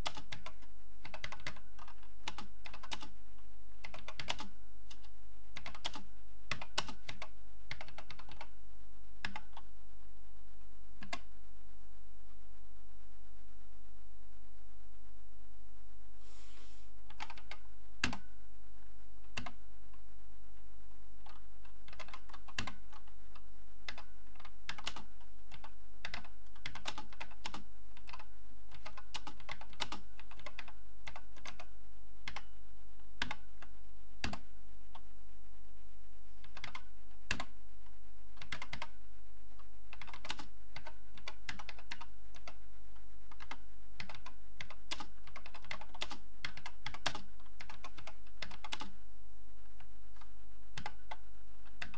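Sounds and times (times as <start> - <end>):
steady electrical hum: 0.0 - 51.9.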